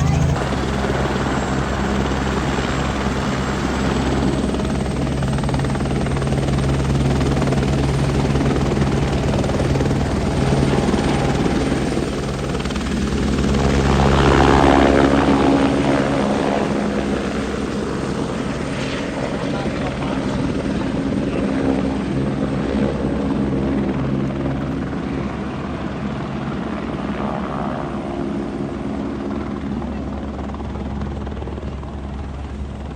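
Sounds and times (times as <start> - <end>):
helicopter flying: 0.0 - 32.9.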